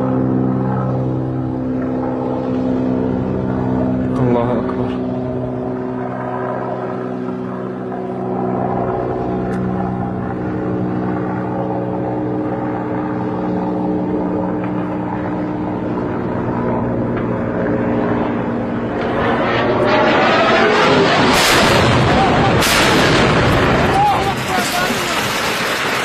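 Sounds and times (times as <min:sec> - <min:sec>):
helicopter flying overhead: 0:00.0 - 0:26.0.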